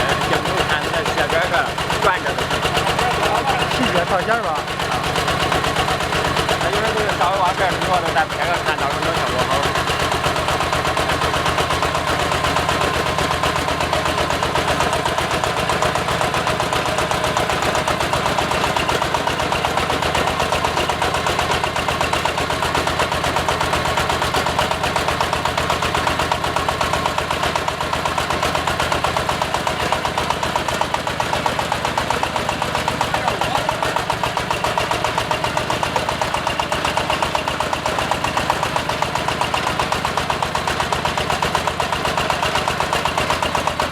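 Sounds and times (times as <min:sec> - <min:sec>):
diesel engine clattering: 0:00.0 - 0:43.9.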